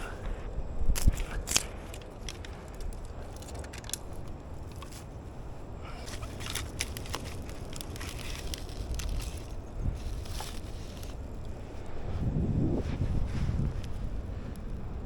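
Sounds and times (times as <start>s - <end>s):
fire crackling: 0.0s - 15.0s
wind rumble on microphone: 0.0s - 15.0s.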